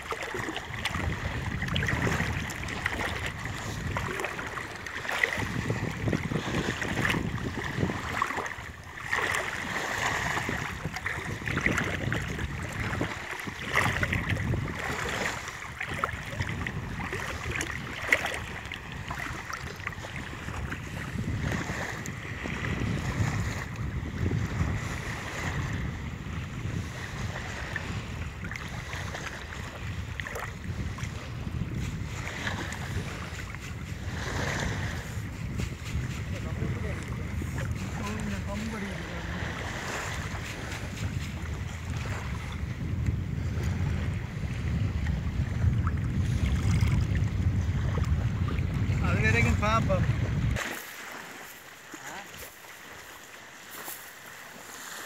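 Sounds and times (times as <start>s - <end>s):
water sloshing and splashing: 0.0s - 25.7s, 26.4s - 55.0s
wind buffeting microphone: 0.0s - 51.3s.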